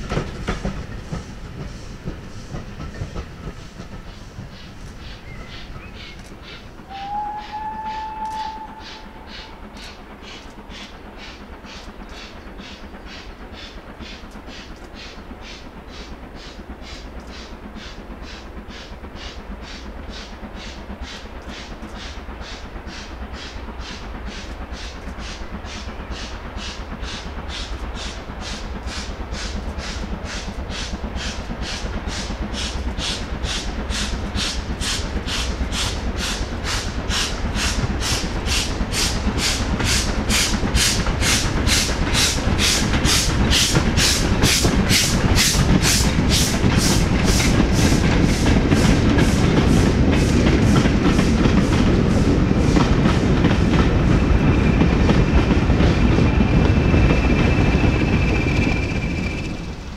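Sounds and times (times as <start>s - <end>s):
steam locomotive exhaust beating: 0.0s - 59.9s.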